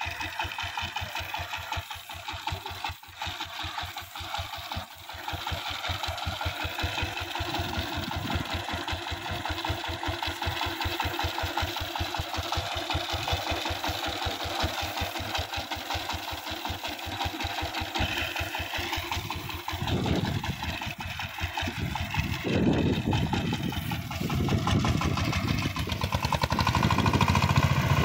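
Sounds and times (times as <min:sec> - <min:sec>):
diesel engine knocking: 0:00.0 - 0:28.0.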